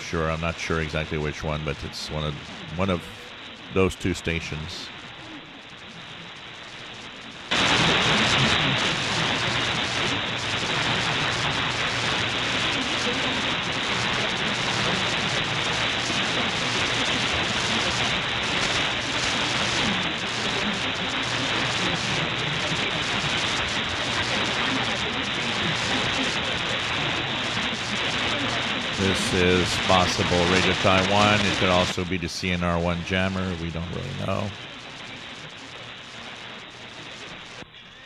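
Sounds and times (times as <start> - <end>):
radio static hiss: 0.0 - 38.0
weak indistinct radio signal: 0.0 - 38.0.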